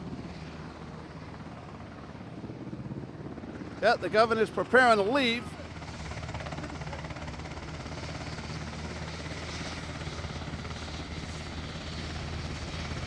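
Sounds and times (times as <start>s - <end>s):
helicopter turbine and rotor: 0.0s - 13.0s.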